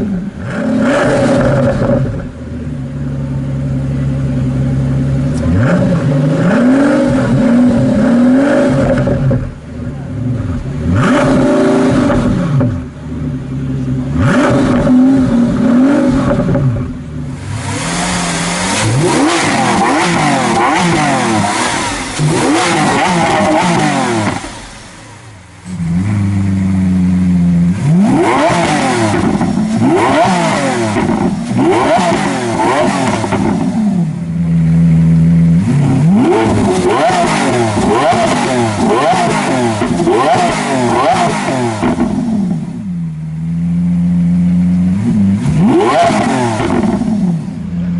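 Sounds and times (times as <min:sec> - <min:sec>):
supercar engine accelerating hard: 0:00.0 - 0:47.9.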